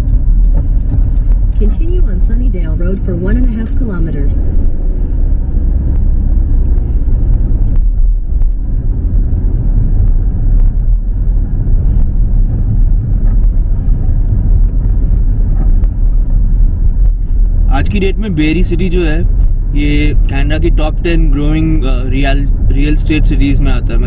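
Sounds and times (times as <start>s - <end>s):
car interior road rumble: 0.0s - 24.0s.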